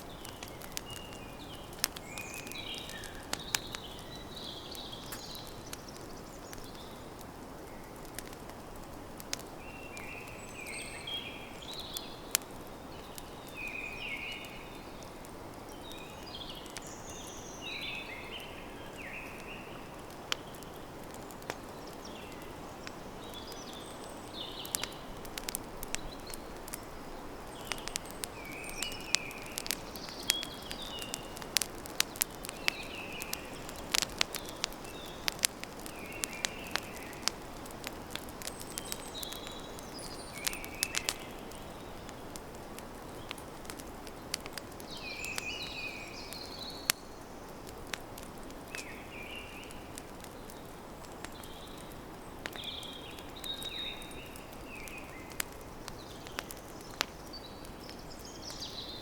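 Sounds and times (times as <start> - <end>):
birds chirping: 0.0 - 8.4, 9.3 - 59.0
fire pops: 0.0 - 58.9
campfire crackling: 0.0 - 59.0.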